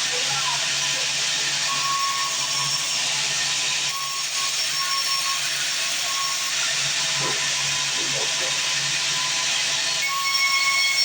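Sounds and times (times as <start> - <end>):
band saw cutting timber: 0.0 - 11.0.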